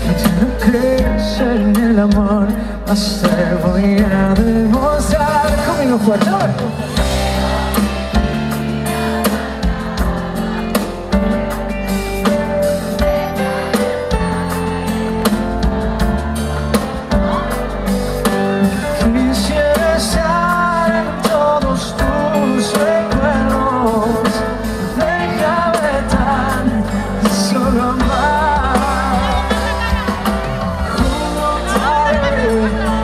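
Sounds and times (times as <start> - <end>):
live band playing pop song: 0.0 - 33.0.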